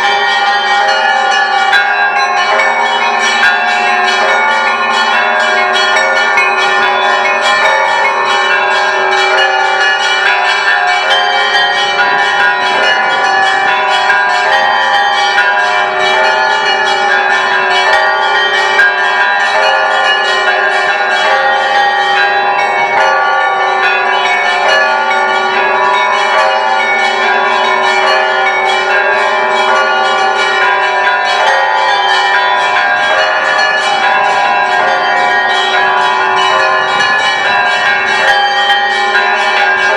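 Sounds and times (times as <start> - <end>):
deep bell tone: 0.0 - 39.9
large bells ringing: 0.0 - 39.9
small bells struck rapidly: 0.0 - 39.9.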